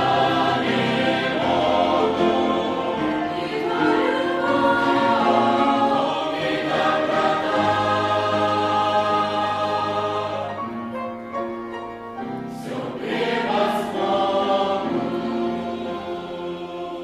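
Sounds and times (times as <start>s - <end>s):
choir singing a hymn: 0.0s - 11.5s, 12.2s - 17.0s.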